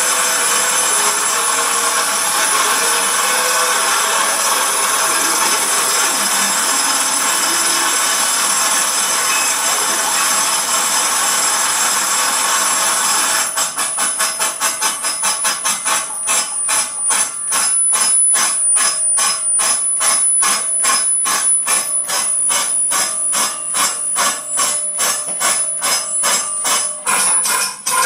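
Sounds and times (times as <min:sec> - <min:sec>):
harsh noisy electronic beats: 0:00.0 - 0:28.0
steady high-pitched whine: 0:00.0 - 0:28.0.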